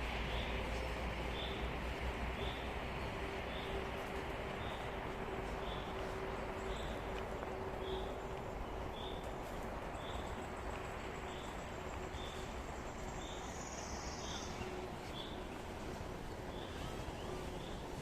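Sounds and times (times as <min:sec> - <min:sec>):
outdoor background hum: 0:00.0 - 0:18.0.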